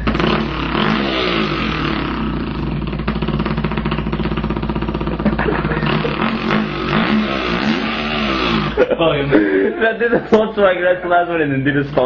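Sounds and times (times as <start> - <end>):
man imitating motorbike engine: 0.0 - 9.8.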